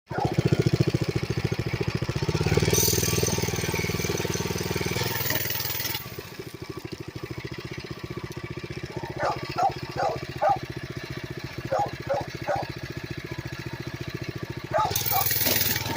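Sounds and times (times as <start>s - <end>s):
mini bike engine running: 0.1s - 15.9s.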